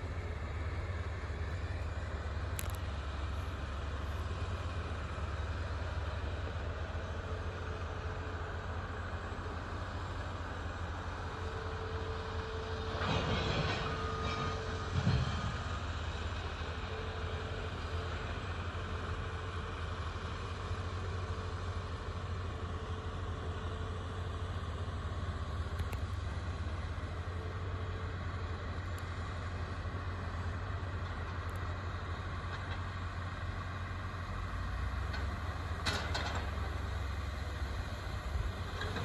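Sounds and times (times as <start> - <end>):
diesel equipment rumbling: 0.0 - 39.0.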